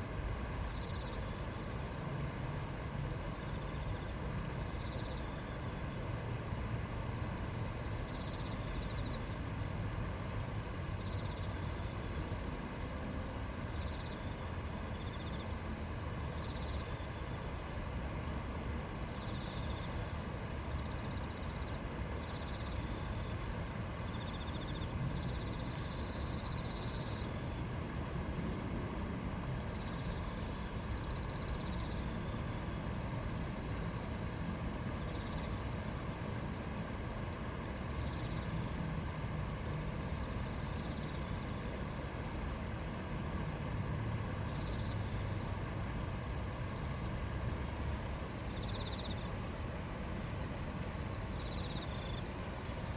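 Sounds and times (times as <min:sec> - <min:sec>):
stream flowing and babbling: 0:00.0 - 0:52.9.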